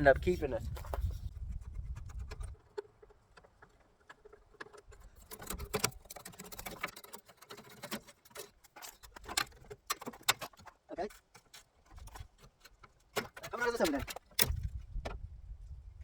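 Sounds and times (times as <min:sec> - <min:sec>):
car parts and hand tools rattling: 0:00.0 - 0:15.1.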